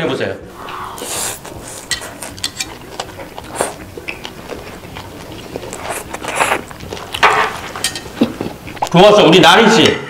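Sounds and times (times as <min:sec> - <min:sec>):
boy chewing meat: 0:00.5 - 0:09.2.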